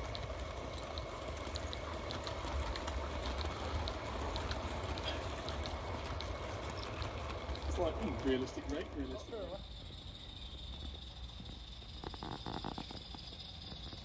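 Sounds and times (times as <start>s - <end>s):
model train wheels clicking: 0.0s - 14.0s.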